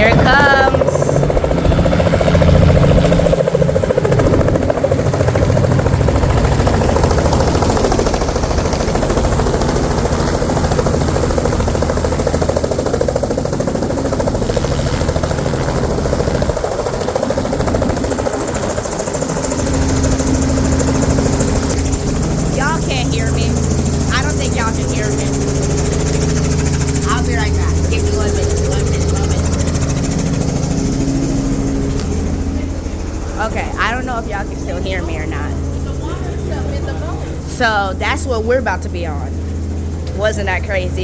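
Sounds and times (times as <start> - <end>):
helicopter rotor chop: 0.0 - 41.0.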